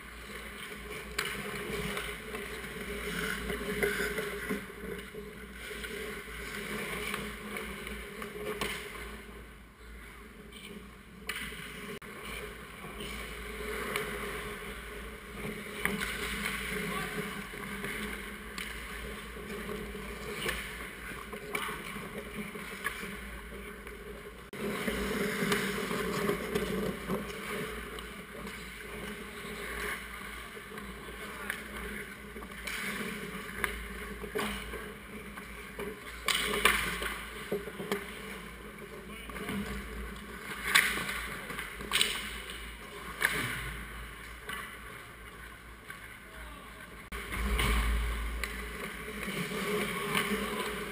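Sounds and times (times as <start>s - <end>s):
skates scraping on ice: 0.0s - 50.9s
hockey sticks and puck clacking: 0.1s - 50.9s.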